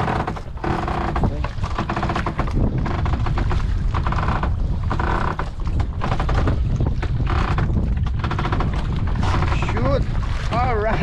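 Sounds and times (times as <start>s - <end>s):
boat engine running: 0.0s - 11.0s
wind buffeting microphone: 0.0s - 11.0s.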